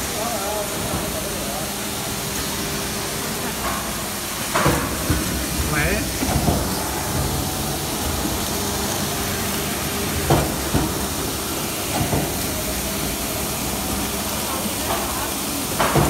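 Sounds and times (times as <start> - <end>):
machine hiss and hum: 0.0 - 16.0.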